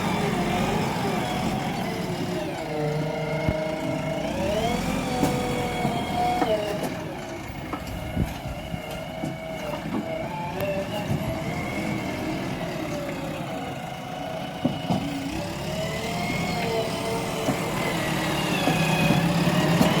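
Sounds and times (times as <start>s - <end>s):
backhoe diesel engine and hydraulics: 0.0s - 20.0s.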